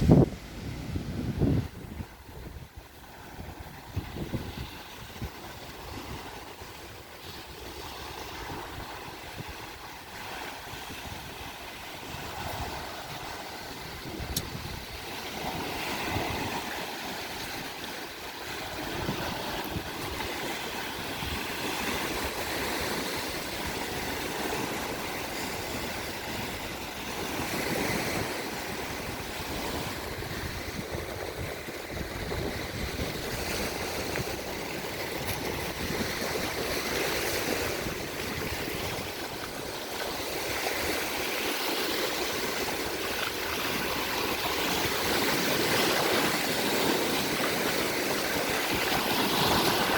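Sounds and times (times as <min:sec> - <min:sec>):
small waves washing onto beach: 0:00.0 - 0:49.9.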